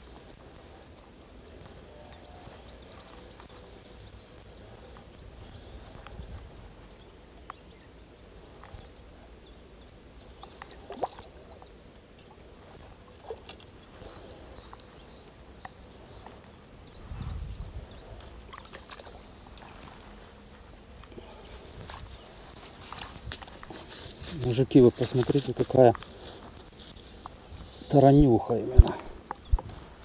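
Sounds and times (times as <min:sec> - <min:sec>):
dry reeds rustling: 0:00.0 - 0:09.4, 0:10.2 - 0:30.0.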